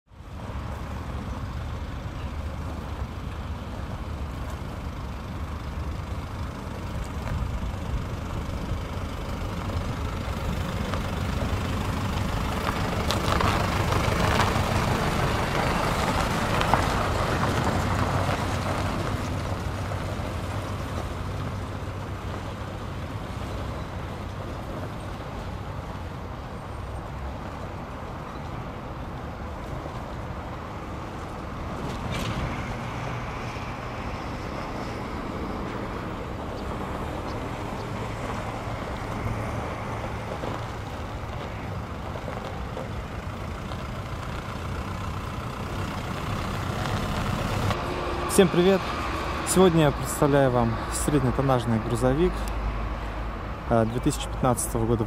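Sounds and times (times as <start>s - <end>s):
truck driving past: 0.1s - 55.0s.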